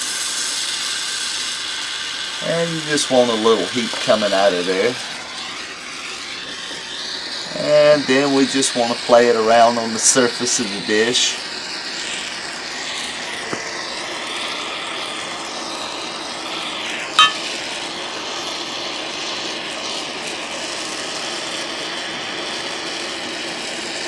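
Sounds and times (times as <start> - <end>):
torch flame hissing: 0.0 - 24.0.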